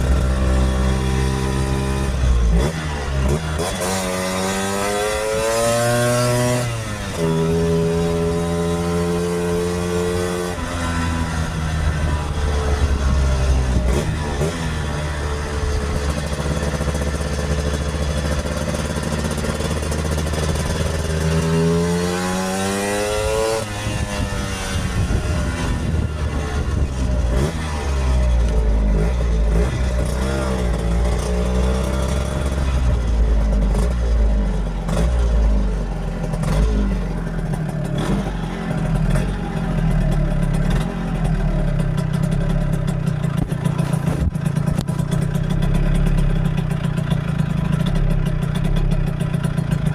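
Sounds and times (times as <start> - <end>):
scooter engine running: 0.0 - 49.9.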